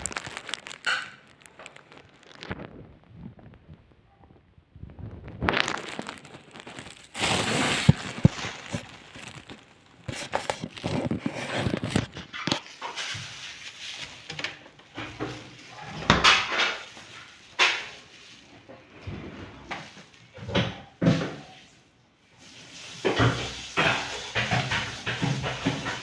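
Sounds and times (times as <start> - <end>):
rustling: 0.0 - 21.7.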